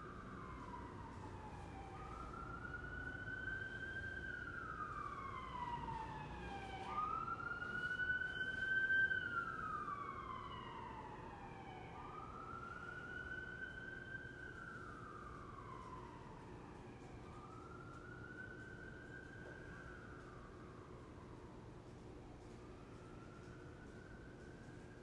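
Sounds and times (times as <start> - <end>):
emergency siren wailing: 0.0 - 25.0.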